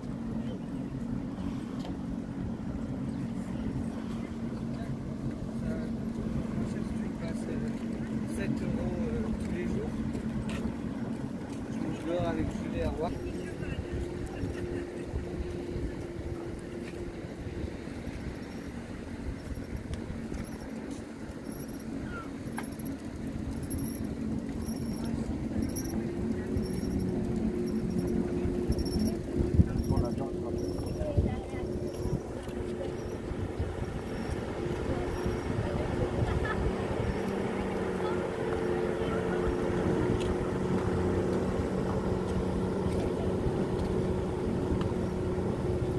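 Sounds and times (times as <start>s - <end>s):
distant jet ski engine: 0.0s - 45.9s
wind rumble on microphone: 0.0s - 45.9s.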